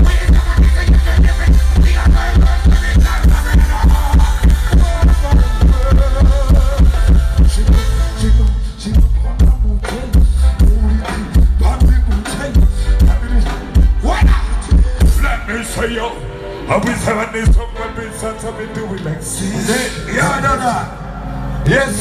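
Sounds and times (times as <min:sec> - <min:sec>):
live band through pa system: 0:00.0 - 0:22.0.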